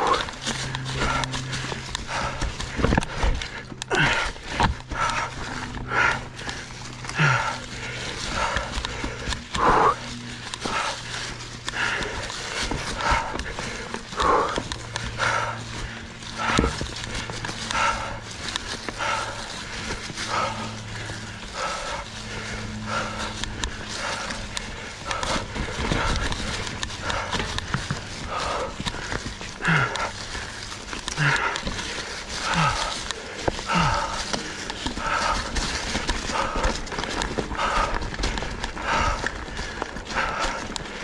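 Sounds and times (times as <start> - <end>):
person breathing hard: 0.0 - 41.0
bike knocking over rocks: 0.1 - 41.0.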